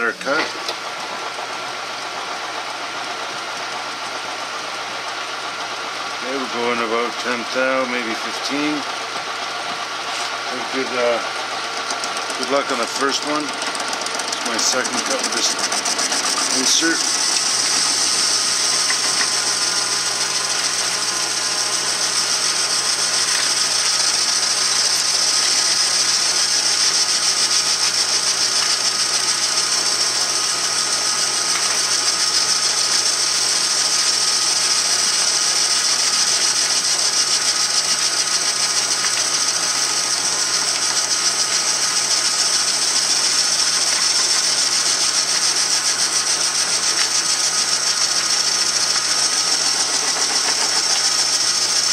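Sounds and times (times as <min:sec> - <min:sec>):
lathe motor hum: 0:00.0 - 0:51.9
lathe cutting hiss: 0:05.9 - 0:51.9.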